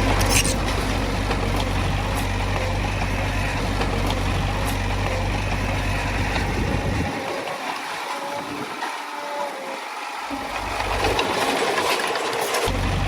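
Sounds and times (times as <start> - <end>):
diesel machinery engine drone: 0.0 - 13.0.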